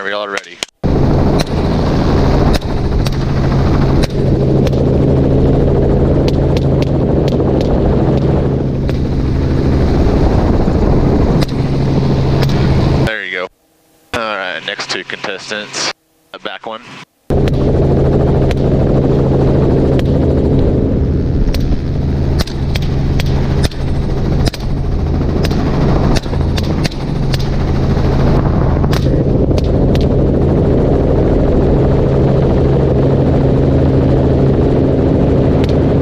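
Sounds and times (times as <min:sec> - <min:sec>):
helicopter running: 0:00.8 - 0:36.0.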